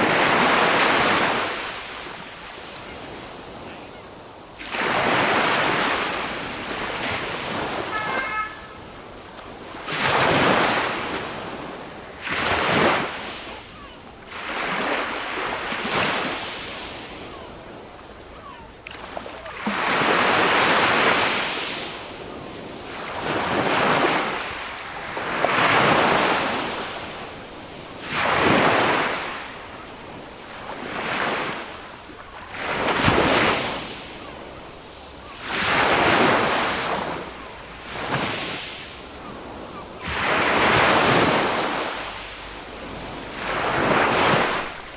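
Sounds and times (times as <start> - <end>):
sea waves breaking on sand: 0.0 - 44.9.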